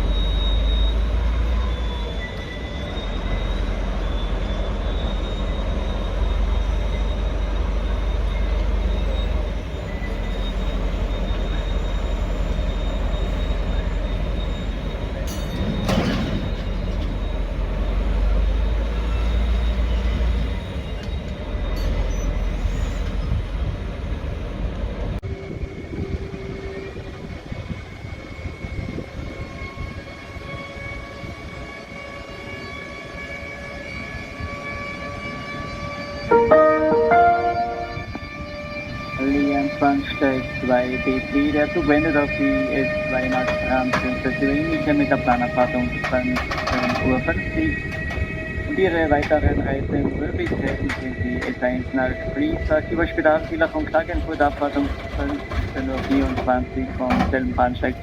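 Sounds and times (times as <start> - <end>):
train wheels squealing: 0.0 - 36.4, 38.0 - 58.0
train rumbling and rolling: 0.0 - 58.0.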